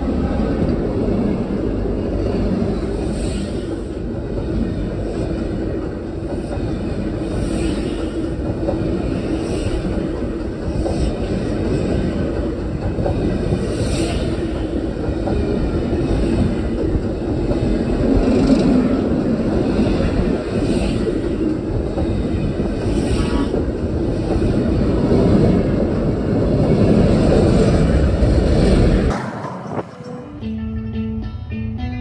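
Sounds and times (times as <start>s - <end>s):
railway wheels rumbling on rails: 0.0s - 30.6s.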